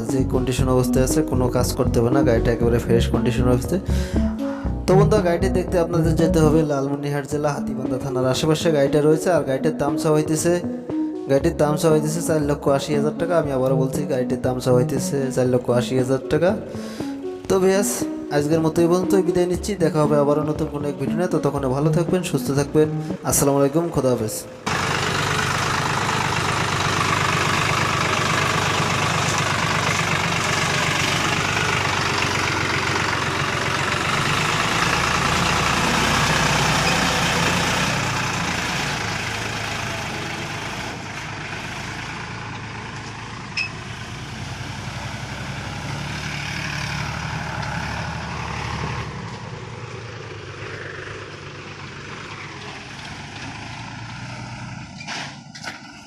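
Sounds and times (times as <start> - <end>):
tractor diesel engine running: 0.0 - 9.6, 10.4 - 56.0.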